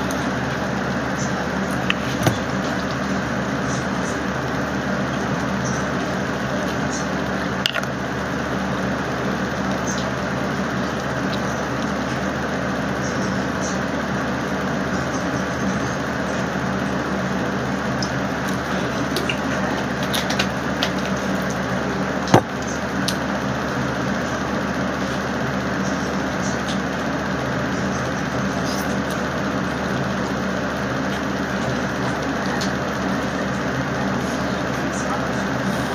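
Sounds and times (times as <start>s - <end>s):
machine droning hum with hiss: 0.0s - 35.9s.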